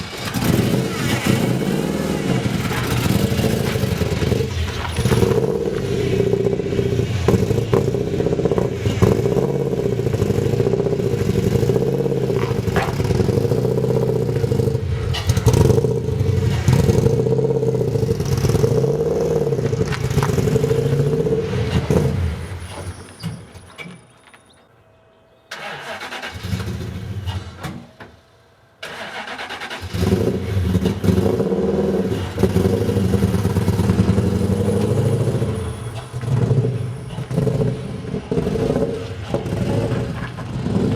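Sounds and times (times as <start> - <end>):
car engine revving: 0.0 - 23.0, 28.8 - 40.9.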